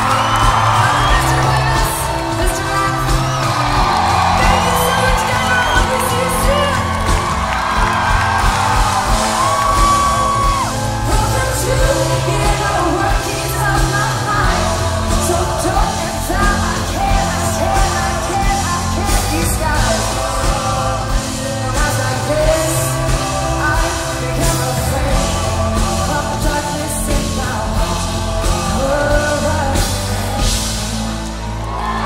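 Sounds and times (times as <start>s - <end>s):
woman singing lead vocal: 0.0s - 3.5s, 4.2s - 7.5s, 9.4s - 31.1s
drums: 0.0s - 32.0s
keyboard: 0.0s - 32.0s.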